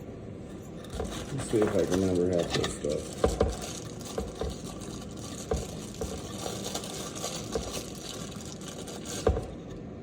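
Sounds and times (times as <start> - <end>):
faucet parts clicking and knocking: 0.8 - 9.6.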